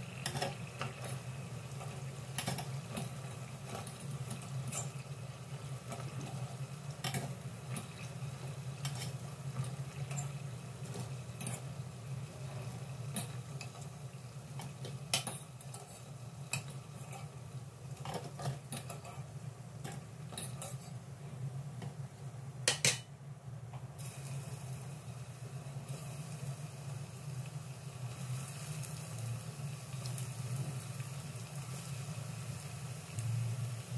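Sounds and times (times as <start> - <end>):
oil sizzling: 0.0 - 33.9.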